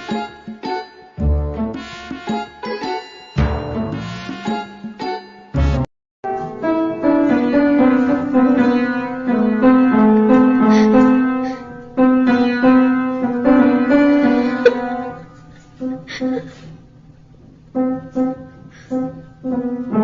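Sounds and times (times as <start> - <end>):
piano melody: 0.0 - 16.1, 17.2 - 20.0.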